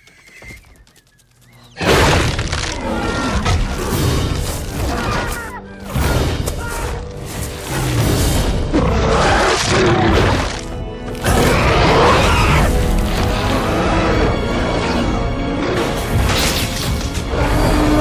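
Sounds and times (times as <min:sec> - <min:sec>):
dramatic film score: 0:01.5 - 0:18.0.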